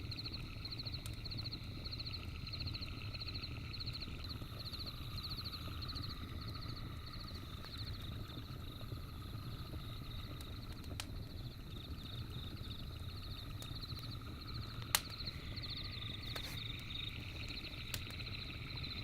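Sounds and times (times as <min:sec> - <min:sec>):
campfire crackles: 0:00.0 - 0:19.0
insects chirping in pulses: 0:00.0 - 0:19.0
low steady rumble: 0:00.0 - 0:19.0.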